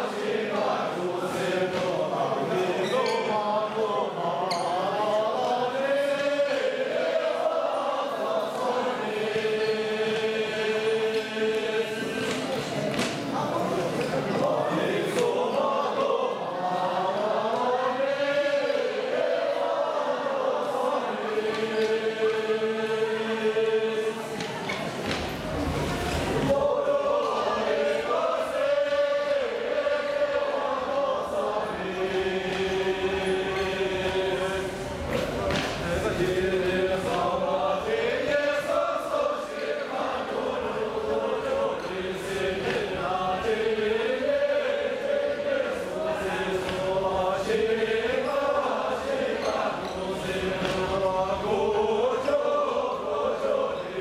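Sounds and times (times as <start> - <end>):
group singing in unison: 0.0 - 54.0.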